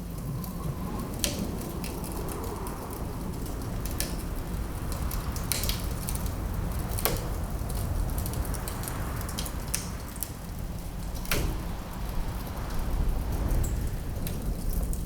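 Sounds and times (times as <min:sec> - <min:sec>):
low wind rumble: 0:00.0 - 0:15.0
wood fire crackling and popping: 0:00.0 - 0:15.0.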